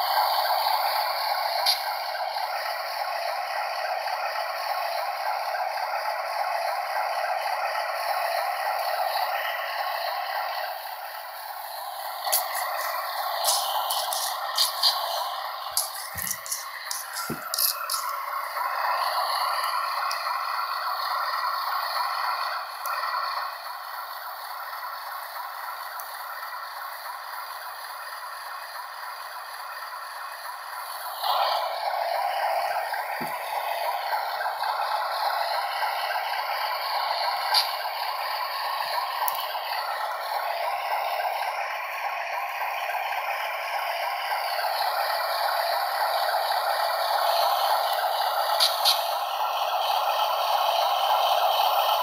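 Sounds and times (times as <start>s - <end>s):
model train rattling on track: 0.0s - 52.0s.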